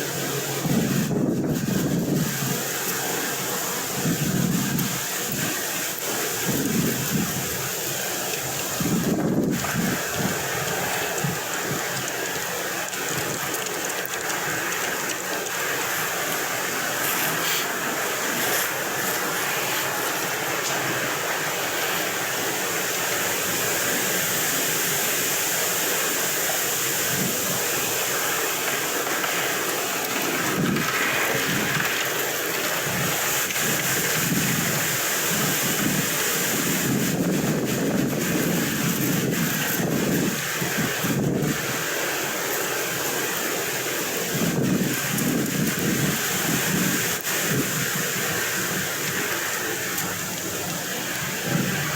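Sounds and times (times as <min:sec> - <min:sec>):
wind blowing across microphone: 0:00.0 - 0:51.9.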